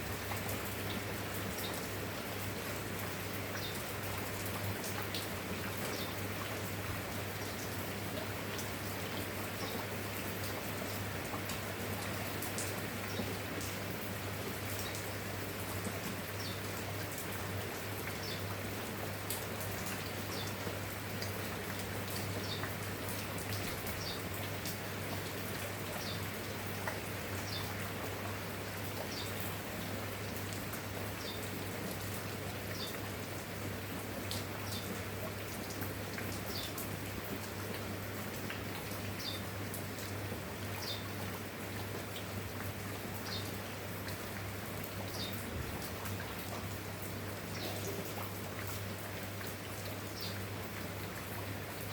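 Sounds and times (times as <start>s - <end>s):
rain drops pattering: 0.0s - 51.9s.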